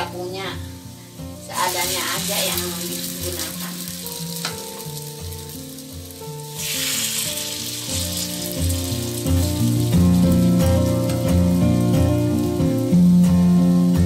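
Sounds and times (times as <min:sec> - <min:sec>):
background music with melody: 0:00.0 - 0:14.0
batter sizzling in metal pan: 0:00.0 - 0:14.0.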